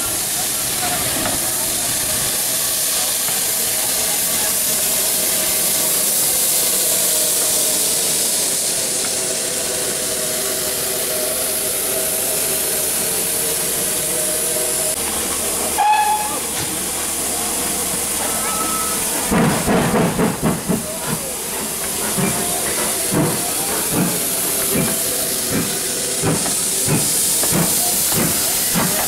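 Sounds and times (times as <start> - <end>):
steam hissing from locomotive: 0.0 - 29.0.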